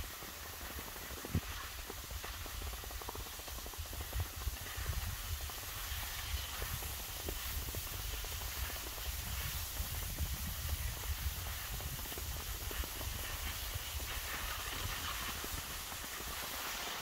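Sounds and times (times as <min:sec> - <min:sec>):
skis sliding over packed snow: 0:00.0 - 0:17.0
wind buffeting microphone: 0:01.1 - 0:16.0.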